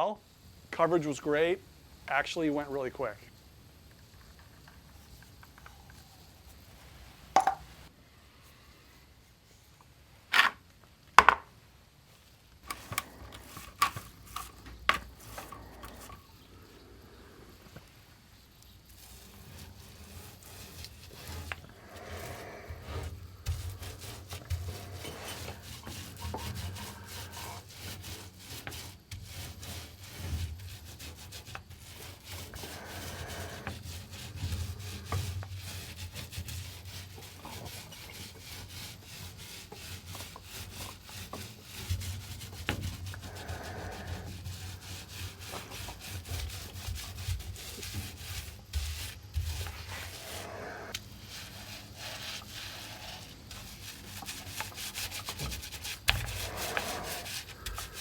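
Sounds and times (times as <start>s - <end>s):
hand tool rubbing and scraping: 0.7s - 7.9s, 12.6s - 58.0s.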